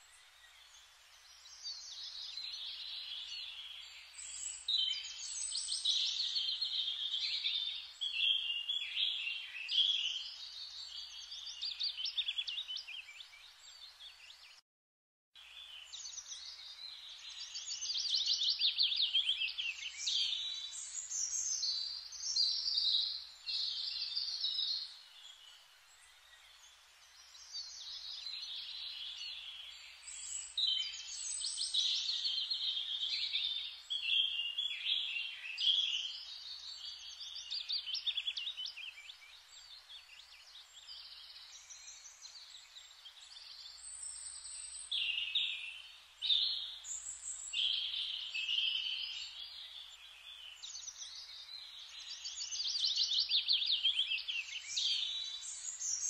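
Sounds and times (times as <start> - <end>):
small birds chirping: 0.0 - 14.6, 15.4 - 56.0.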